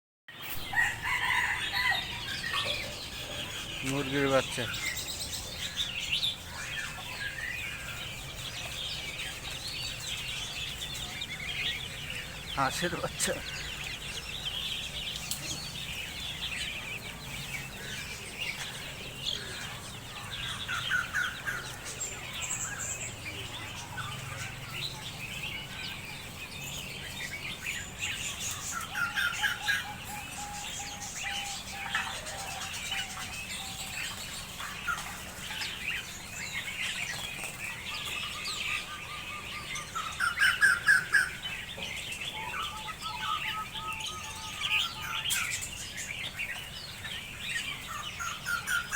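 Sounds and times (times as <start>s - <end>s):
small birds chirping: 0.3s - 48.9s.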